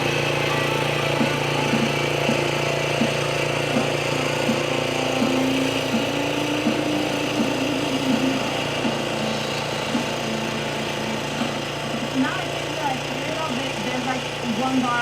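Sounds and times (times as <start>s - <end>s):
garden tractor engine running: 0.0s - 15.0s.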